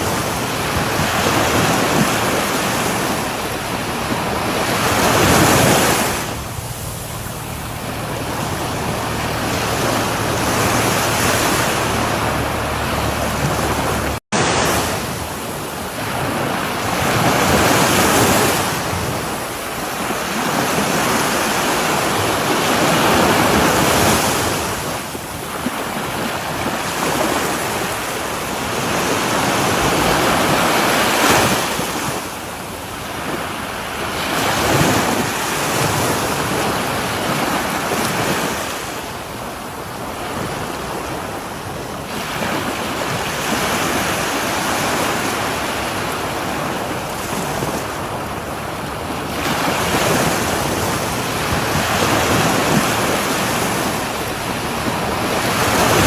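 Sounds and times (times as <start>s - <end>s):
ocean waves breaking on shore: 0.0s - 56.0s
wind buffeting microphone: 0.0s - 56.0s.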